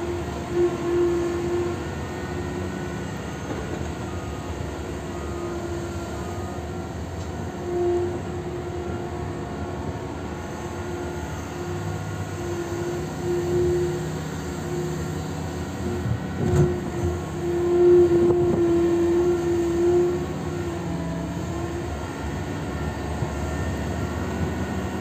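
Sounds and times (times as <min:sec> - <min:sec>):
heavy machine drone: 0:00.0 - 0:25.0
machine whine: 0:00.0 - 0:25.0.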